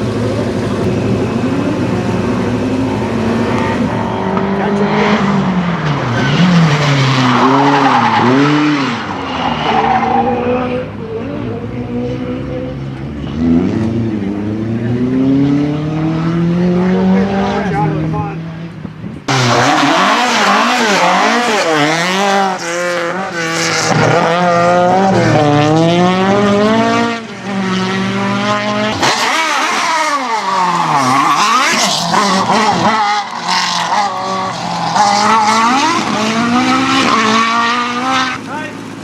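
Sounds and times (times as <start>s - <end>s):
racing car engine revving: 0.0s - 39.0s.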